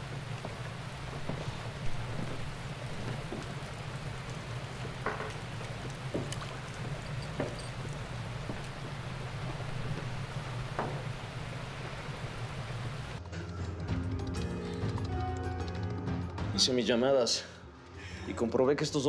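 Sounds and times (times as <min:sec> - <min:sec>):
steady rain: 0:00.0 - 0:16.4.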